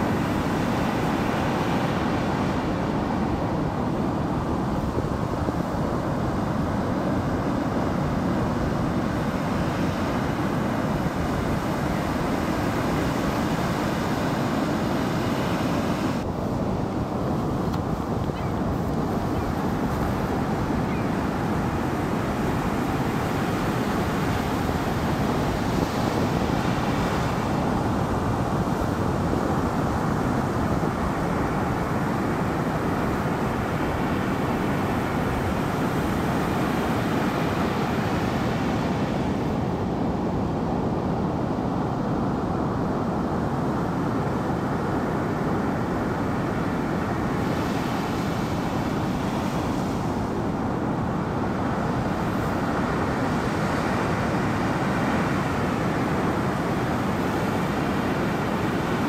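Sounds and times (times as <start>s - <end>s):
ocean waves: 0.0s - 59.0s.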